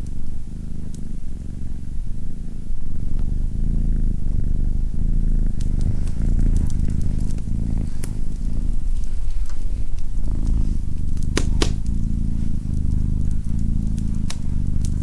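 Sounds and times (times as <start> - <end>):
cat purring: 0.0 - 15.0
fireplace fire crackles: 0.0 - 15.0.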